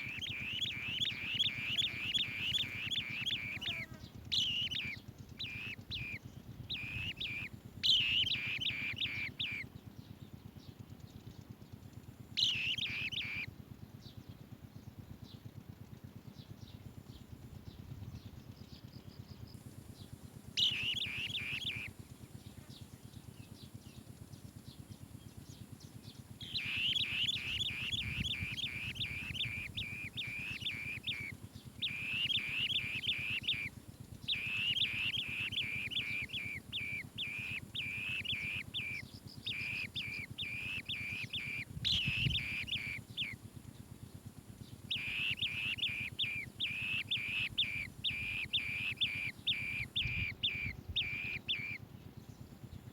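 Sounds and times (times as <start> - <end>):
birds chirping harshly: 0.0 - 15.7, 16.3 - 52.9.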